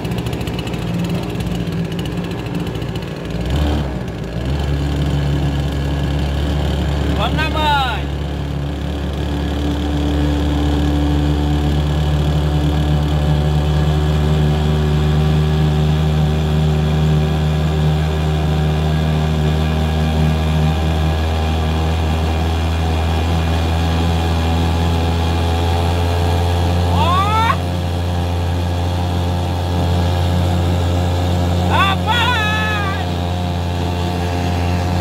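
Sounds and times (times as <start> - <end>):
two-stroke outboard motor running: 0.0 - 35.0.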